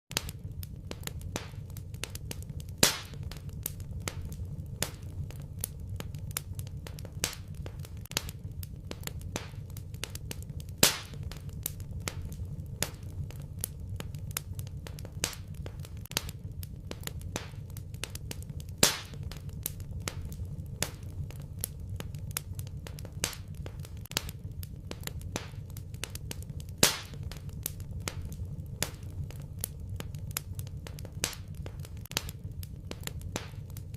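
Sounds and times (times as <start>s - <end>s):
sharp pop from fire: 0.1s - 5.4s, 6.9s - 13.1s, 14.3s - 21.1s, 22.9s - 29.1s, 30.0s - 33.8s
wood fire crackling: 0.1s - 33.9s
low rumble: 0.2s - 33.9s.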